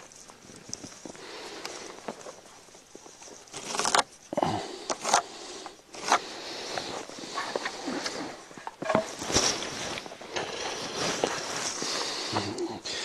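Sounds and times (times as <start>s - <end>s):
crunch and rustle in snow: 0.0s - 4.3s, 5.9s - 12.8s.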